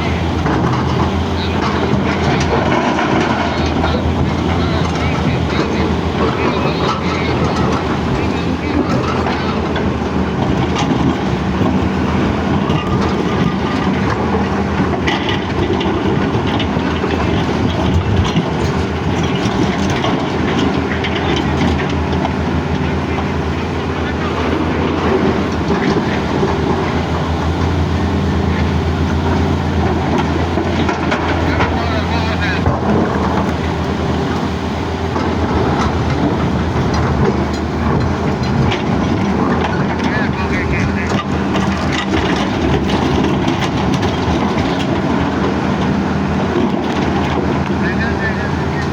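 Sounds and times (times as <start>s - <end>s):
diesel engine running under load: 0.0s - 48.9s
rock and metal rattling: 0.0s - 48.9s.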